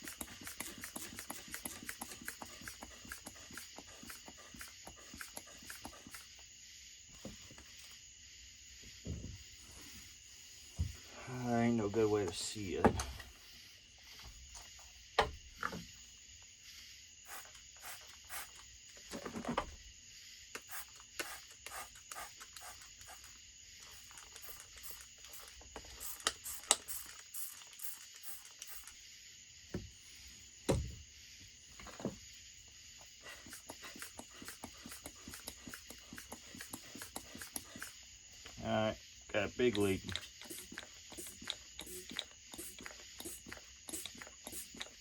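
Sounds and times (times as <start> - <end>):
faint steady hiss: 0.0 - 45.0.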